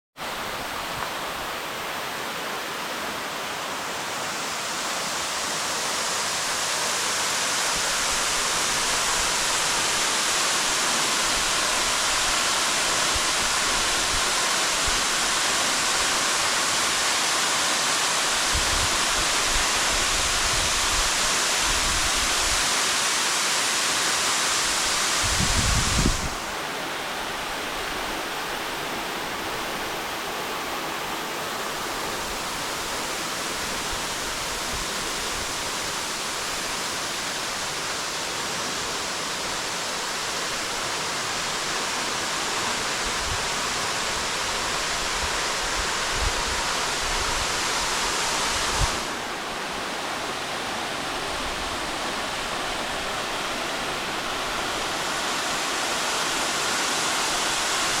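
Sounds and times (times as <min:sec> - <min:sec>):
waterfall rushing: 0:00.2 - 0:58.0.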